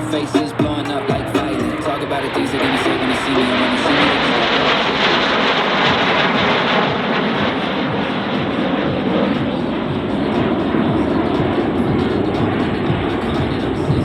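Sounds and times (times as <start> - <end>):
jets passing: 0.0 - 14.0.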